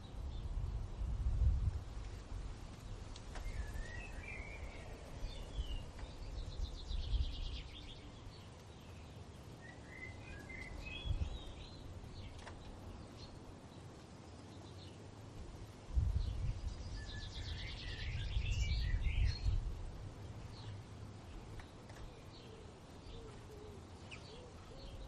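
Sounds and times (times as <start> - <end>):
low rumble of wind: 0.0 - 25.0
songbirds singing: 0.0 - 25.0.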